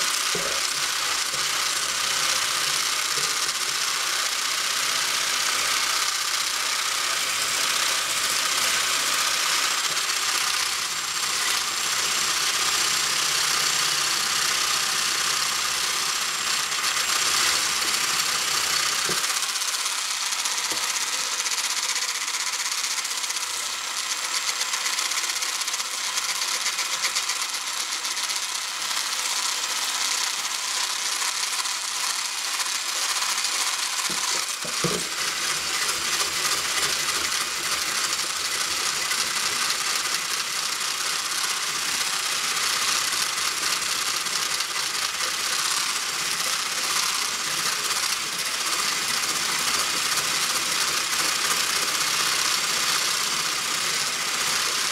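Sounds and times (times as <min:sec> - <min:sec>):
electric mixer running: 0:00.0 - 0:54.9.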